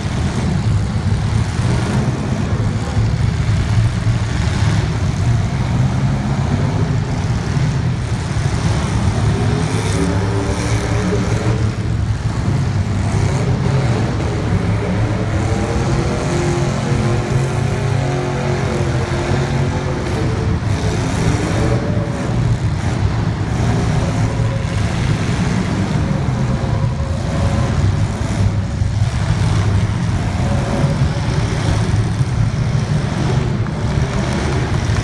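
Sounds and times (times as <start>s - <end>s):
race car engines running loudly: 0.0s - 35.0s.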